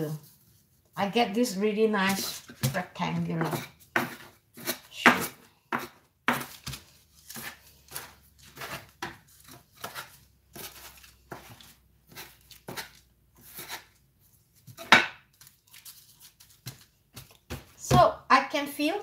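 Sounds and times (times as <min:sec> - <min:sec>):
scraper scraping and patting dough: 0:00.1 - 0:18.1.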